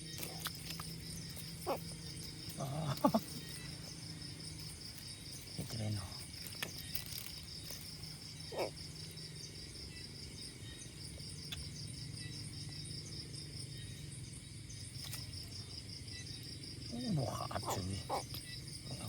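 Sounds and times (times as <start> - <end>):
insects trilling: 0.0 - 19.0
short insect call: 0.0 - 19.0.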